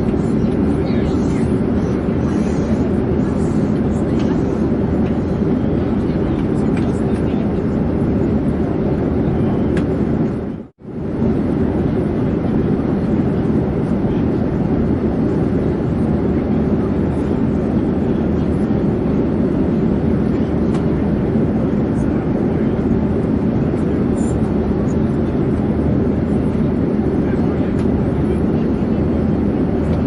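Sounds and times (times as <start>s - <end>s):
airplane engine rumble: 0.0s - 30.0s.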